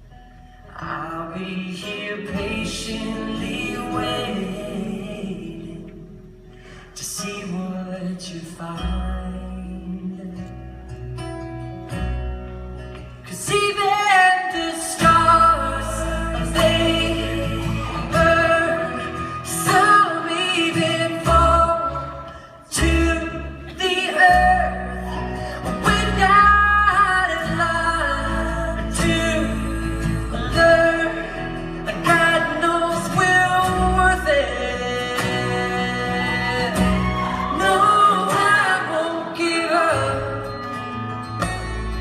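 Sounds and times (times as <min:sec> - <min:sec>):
guitar: 0:00.0 - 0:42.0
person singing: 0:00.7 - 0:06.2, 0:13.3 - 0:42.0.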